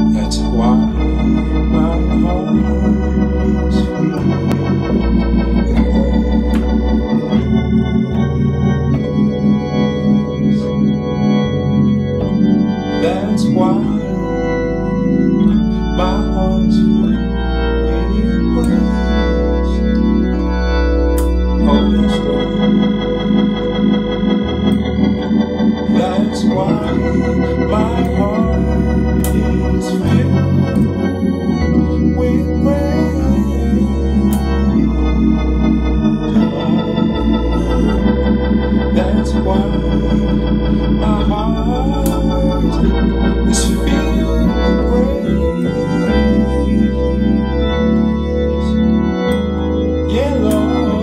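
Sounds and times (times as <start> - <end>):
organ playing gospel chords: 0.0 - 51.0.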